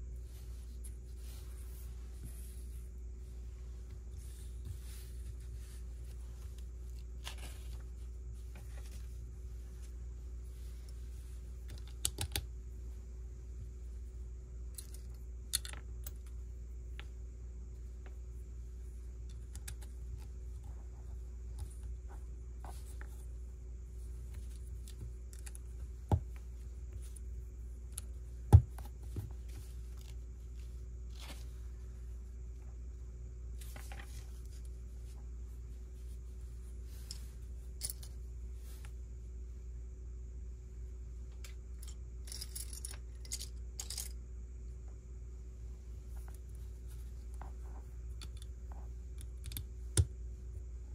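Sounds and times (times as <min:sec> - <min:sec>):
rustling: 0:00.0 - 0:39.5, 0:45.5 - 0:50.5
faint steady hum: 0:00.0 - 0:50.9.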